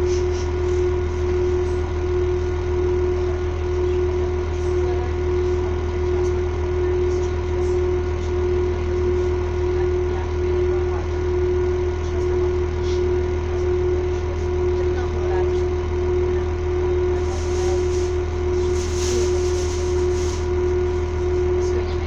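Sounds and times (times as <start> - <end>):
train engine humming: 0.0 - 22.0.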